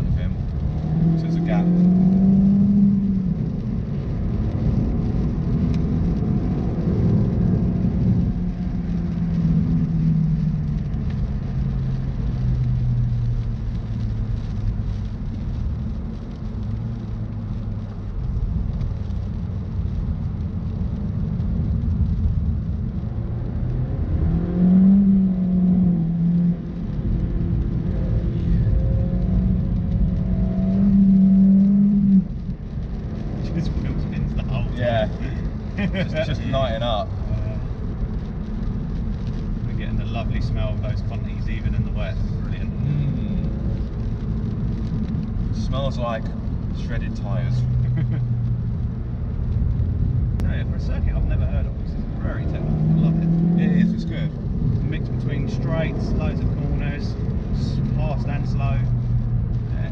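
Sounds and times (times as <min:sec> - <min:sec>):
car engine revving inside cabin: 0:00.0 - 0:59.9.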